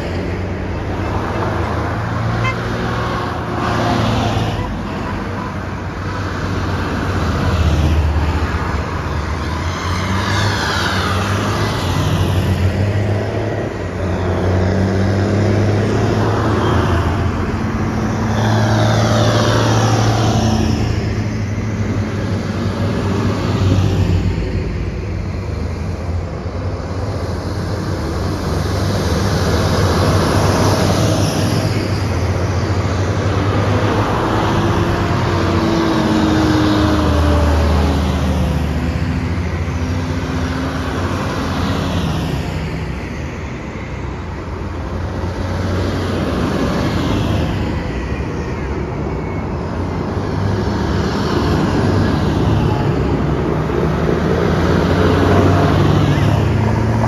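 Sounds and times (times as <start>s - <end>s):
cars passing: 0.0s - 57.0s
tractors driving past: 0.0s - 57.0s.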